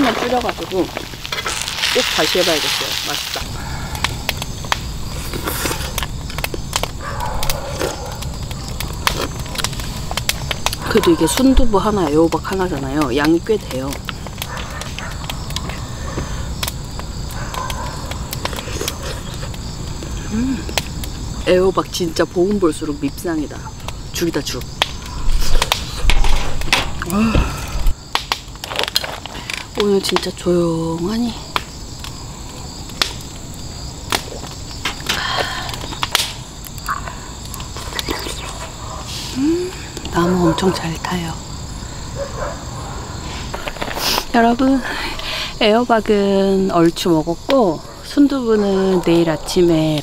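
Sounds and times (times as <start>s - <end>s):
campfire crackling and popping: 0.0s - 50.0s
crickets chirping: 0.0s - 50.0s.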